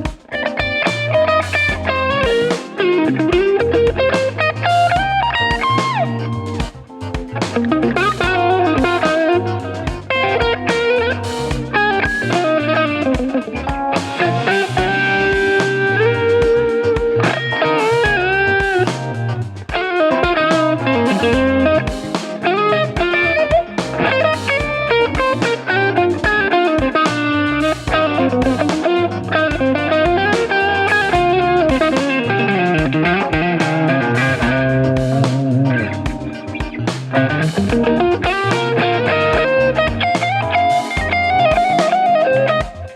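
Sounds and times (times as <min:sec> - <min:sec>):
electric guitar lead lines: 0:00.0 - 0:42.9.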